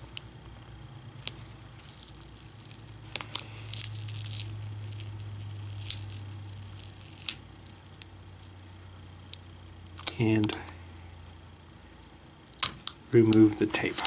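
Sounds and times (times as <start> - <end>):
tape peeling with crackles: 0.0 - 10.8, 12.5 - 14.0
low steady hum: 0.0 - 14.0.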